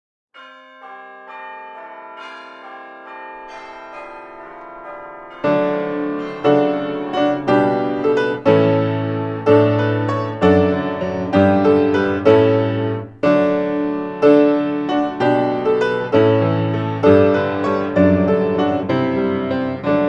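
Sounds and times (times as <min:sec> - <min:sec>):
piano music: 0:00.4 - 0:20.0.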